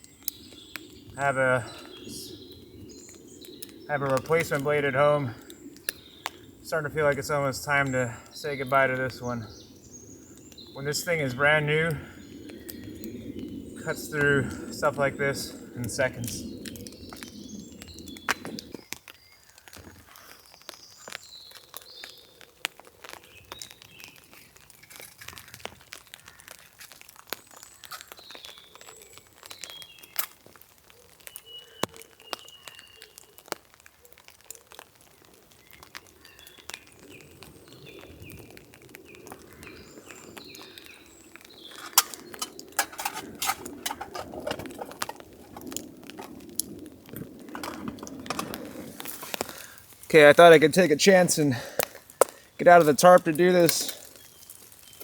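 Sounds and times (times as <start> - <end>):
birds chirping: 0.0 - 25.6, 35.6 - 55.0.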